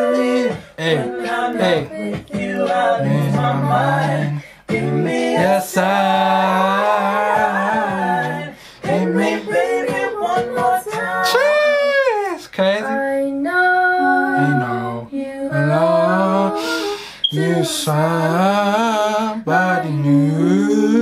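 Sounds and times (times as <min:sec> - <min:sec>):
woman singing a cappella: 0:00.0 - 0:12.0, 0:12.8 - 0:21.0.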